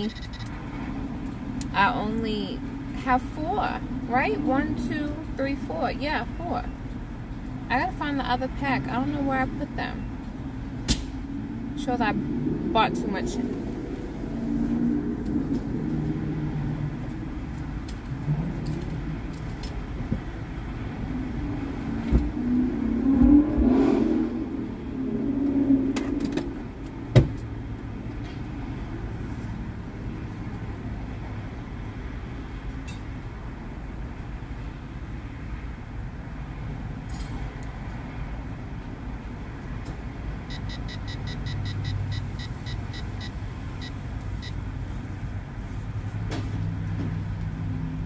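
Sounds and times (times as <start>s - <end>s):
car cabin vehicle hum: 0.0s - 48.0s.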